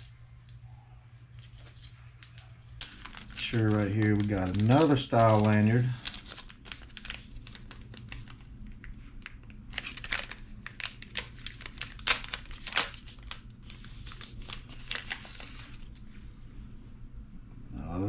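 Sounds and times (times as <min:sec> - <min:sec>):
packaging crinkling: 0:01.4 - 0:16.1.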